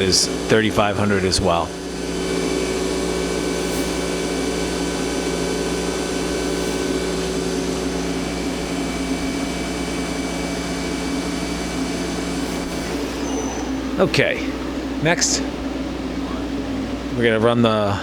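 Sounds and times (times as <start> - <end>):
lathe spindle humming and whining: 0.0 - 18.0.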